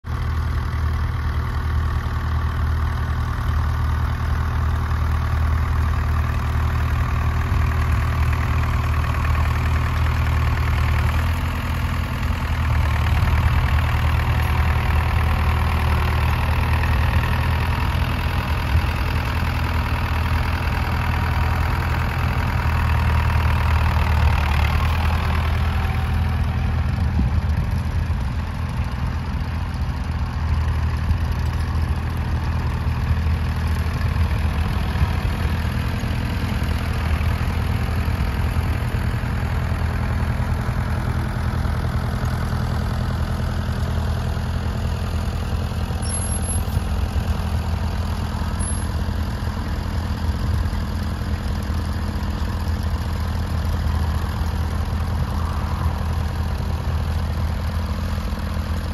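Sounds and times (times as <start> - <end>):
tractor engine running under load: 0.0 - 58.9.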